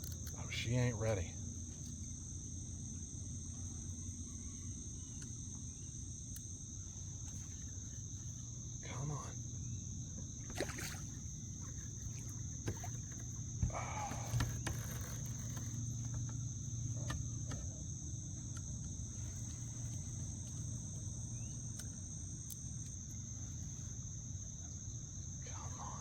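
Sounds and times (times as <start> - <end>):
insects droning: 0.0 - 26.0
low background rumble: 0.0 - 26.0.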